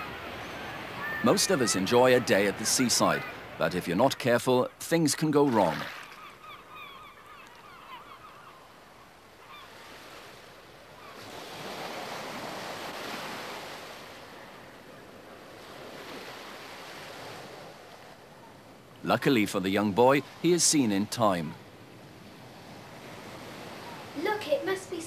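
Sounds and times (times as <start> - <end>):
sea waves breaking: 0.0 - 25.0
seabirds calling: 0.0 - 25.0.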